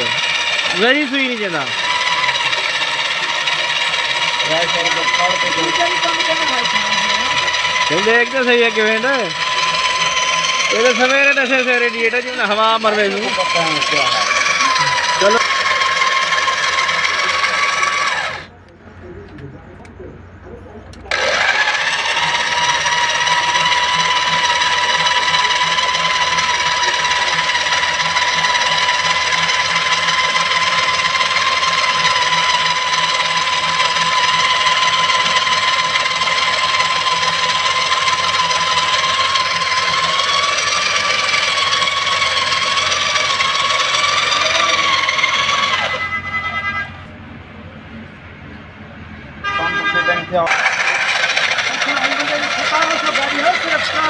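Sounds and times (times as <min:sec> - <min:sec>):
drill whining: 0:00.0 - 0:18.5, 0:21.0 - 0:47.0, 0:50.4 - 0:54.0.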